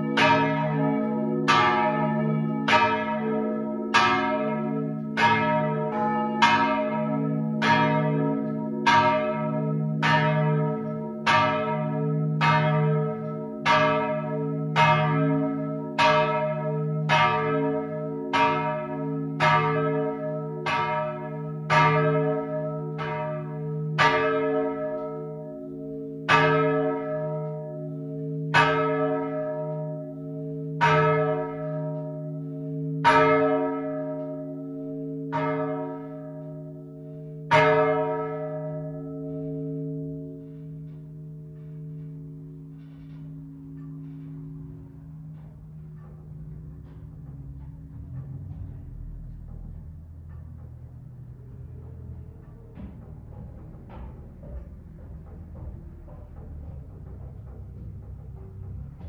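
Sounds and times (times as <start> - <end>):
church bells ringing: 0.0 - 55.7.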